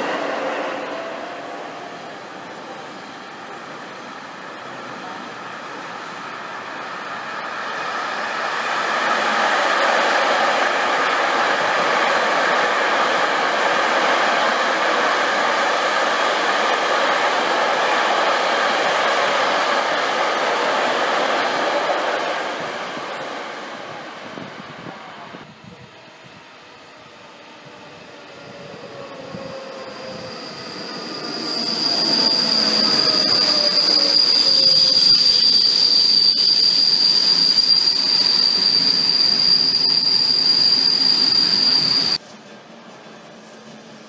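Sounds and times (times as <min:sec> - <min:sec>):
freight train rolling past: 0:00.0 - 0:44.0.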